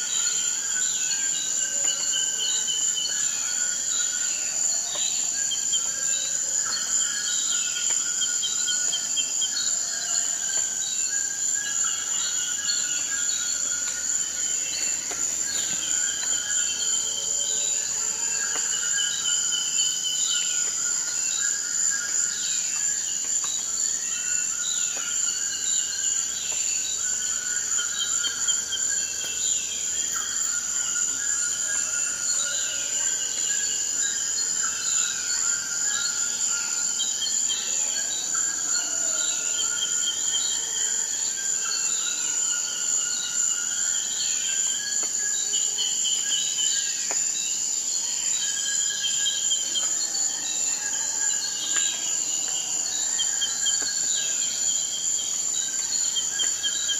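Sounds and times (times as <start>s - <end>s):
high-pitched insect trill: 0.0s - 56.9s.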